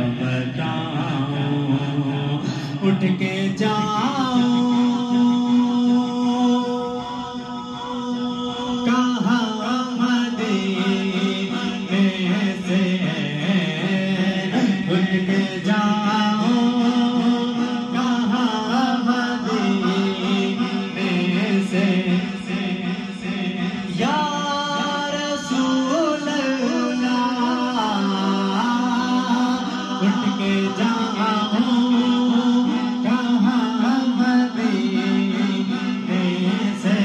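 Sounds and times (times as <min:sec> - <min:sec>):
man singing into microphone: 0:00.0 - 0:37.0.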